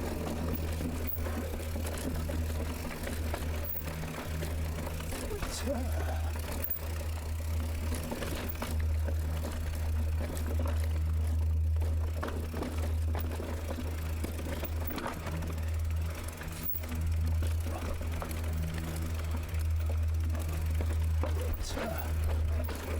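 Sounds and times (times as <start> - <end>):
bike clicks and rattles: 0.0 - 22.9.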